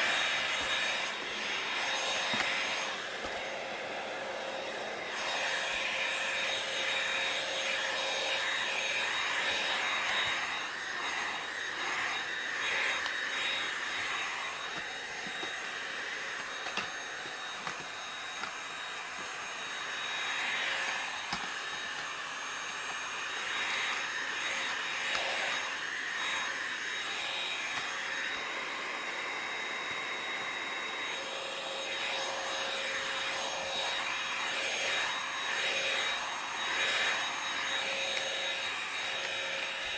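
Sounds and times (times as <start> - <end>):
vacuum cleaner whine: 0.0 - 39.9.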